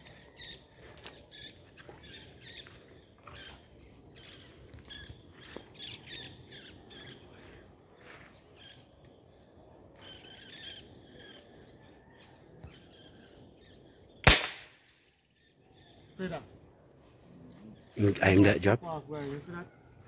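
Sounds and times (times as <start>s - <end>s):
birds chirping and calling: 0.0s - 14.2s, 15.2s - 20.0s.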